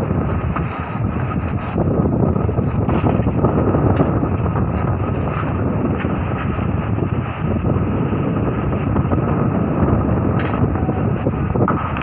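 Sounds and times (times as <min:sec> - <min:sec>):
strong wind rumbling on microphone: 0:00.0 - 0:12.0.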